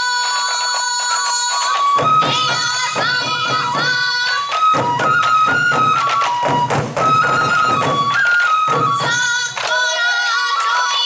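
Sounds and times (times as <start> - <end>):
bamboo flute melody: 0.0 - 11.0
taiko drums beating: 0.2 - 11.0.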